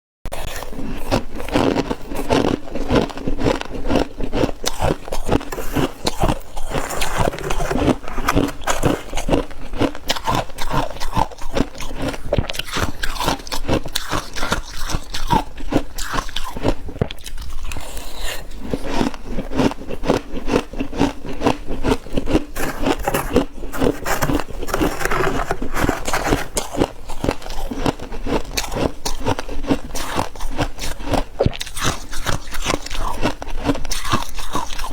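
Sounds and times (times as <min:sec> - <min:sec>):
crunching and chewing frost: 0:00.3 - 0:34.9.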